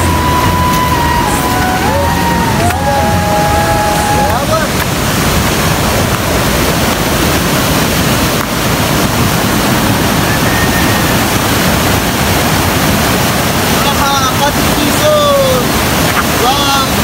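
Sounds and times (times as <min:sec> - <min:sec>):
loud steady rushing noise: 0:00.0 - 0:17.0.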